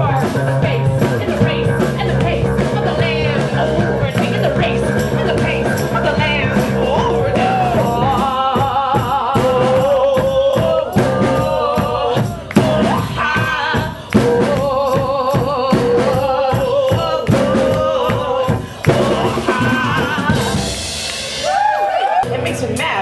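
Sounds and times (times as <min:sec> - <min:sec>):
drum kit beat: 0:00.0 - 0:23.0
rock band playing: 0:00.0 - 0:23.0.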